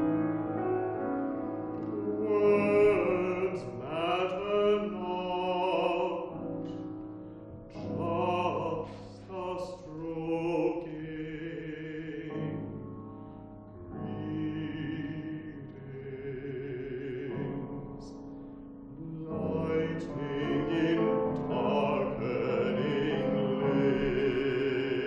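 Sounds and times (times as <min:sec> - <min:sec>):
piano accompaniment: 0:00.0 - 0:25.0
baritone singing: 0:01.7 - 0:06.9, 0:07.6 - 0:25.0.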